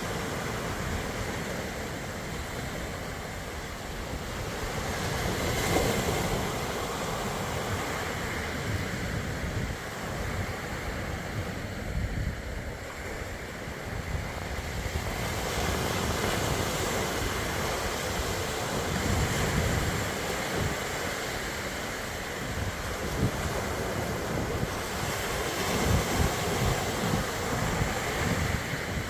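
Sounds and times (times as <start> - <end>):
waves breaking on shore: 0.0 - 29.0
wind buffeting microphone: 0.0 - 29.0.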